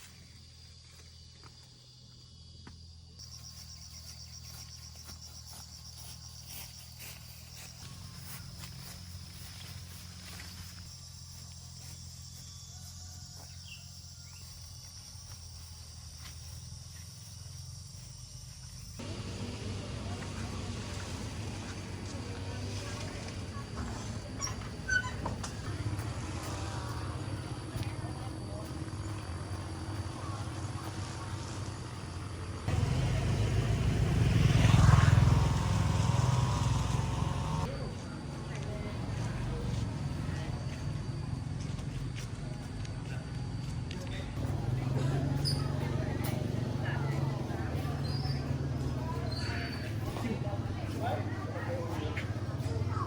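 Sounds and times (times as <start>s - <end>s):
insects chirring: 0.0s - 53.0s
vehicle engine rumbling: 3.2s - 53.0s.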